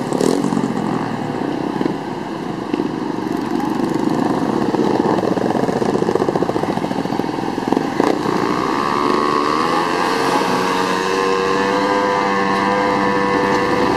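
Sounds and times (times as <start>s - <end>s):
engines of passing vehicles: 0.0s - 13.9s.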